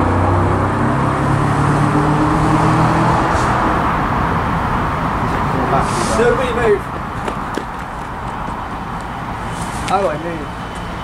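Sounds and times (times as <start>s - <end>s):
locomotive engine drone: 0.0s - 11.0s.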